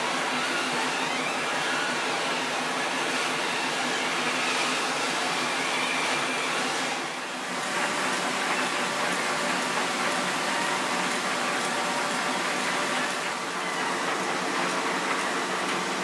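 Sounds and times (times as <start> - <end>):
grinding machines whirring: 0.0 - 16.0.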